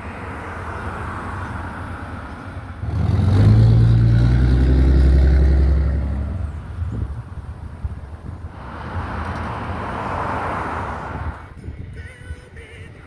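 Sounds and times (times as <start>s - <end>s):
road and wind noise: 0.0s - 13.0s
vehicle engine rumble passing: 0.6s - 11.6s.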